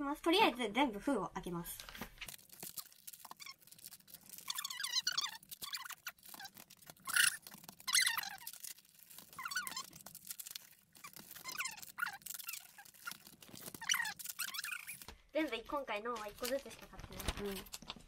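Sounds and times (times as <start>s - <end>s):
plastic wrap squeaking and crinkling: 1.7s - 18.0s
plastic wrap tearing rip: 1.9s - 18.0s.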